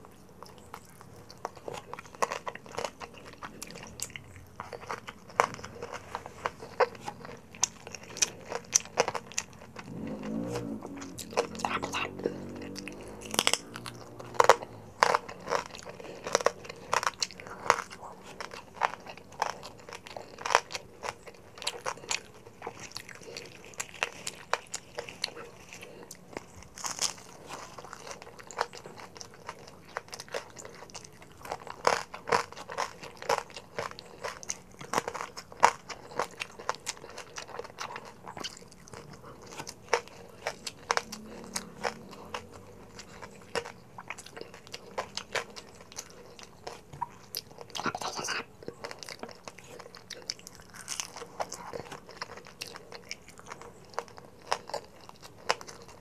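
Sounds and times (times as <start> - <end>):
wet chewing: 0.0 - 56.0
crunching bites: 0.3 - 56.0.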